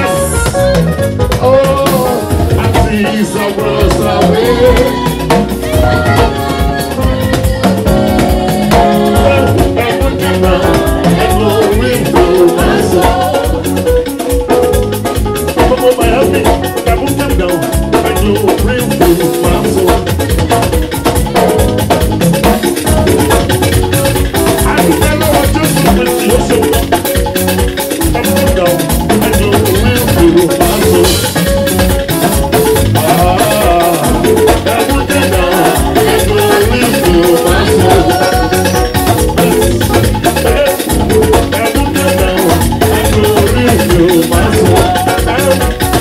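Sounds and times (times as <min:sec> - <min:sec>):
drum and percussion groove: 0:00.0 - 0:46.0
live band music: 0:00.0 - 0:46.0
person singing: 0:01.3 - 0:14.2, 0:15.6 - 0:20.2, 0:24.5 - 0:27.0, 0:28.0 - 0:31.4, 0:32.5 - 0:46.0.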